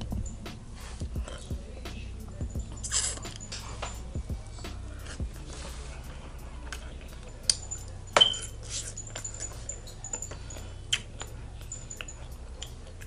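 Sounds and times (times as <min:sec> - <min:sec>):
shell and utensils clinking: 0:00.0 - 0:05.2, 0:06.0 - 0:13.0
eating sounds: 0:00.0 - 0:13.0.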